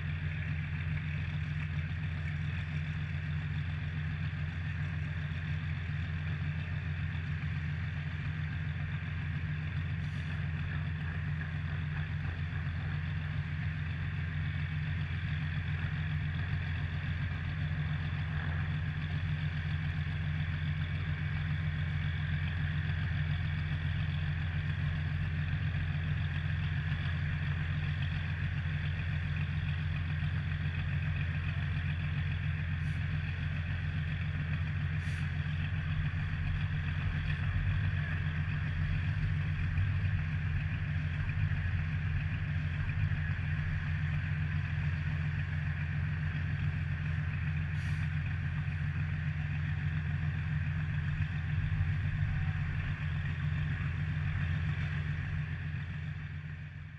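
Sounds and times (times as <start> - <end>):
boat engines droning: 0.0 - 56.9.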